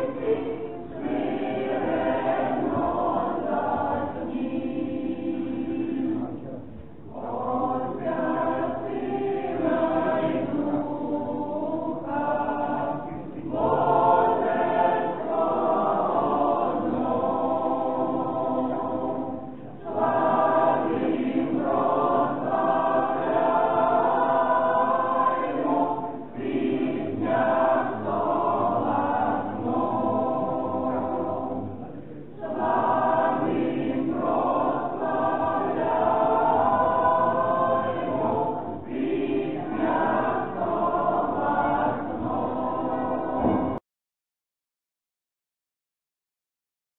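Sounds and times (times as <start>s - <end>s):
choir singing chant: 0.0s - 43.8s.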